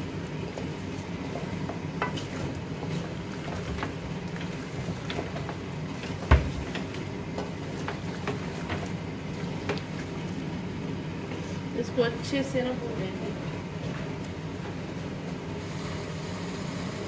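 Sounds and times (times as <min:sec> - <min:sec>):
chicken frying in a pot: 0:00.0 - 0:17.0.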